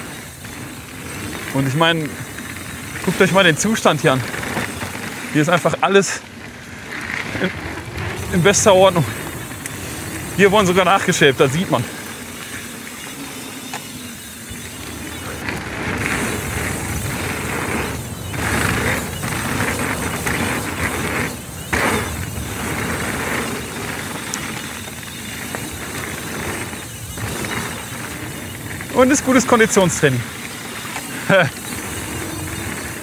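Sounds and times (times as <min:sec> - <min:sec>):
bike tyres rolling on dirt: 0:00.0 - 0:33.0.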